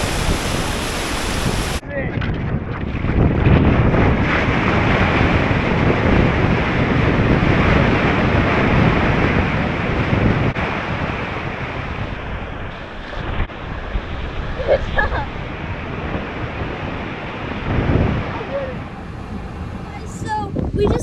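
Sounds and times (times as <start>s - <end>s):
ocean surf breaking: 0.0s - 1.9s, 3.0s - 21.0s
wind on microphone: 0.0s - 21.0s.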